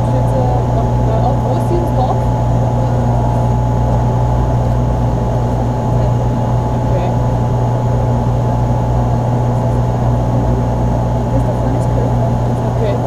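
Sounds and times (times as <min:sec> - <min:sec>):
turboprop cabin drone: 0:00.0 - 0:13.0.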